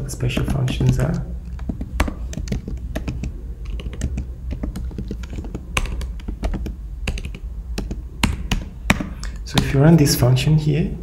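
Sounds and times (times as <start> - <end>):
typing on computer keyboard: 0.2 - 9.7.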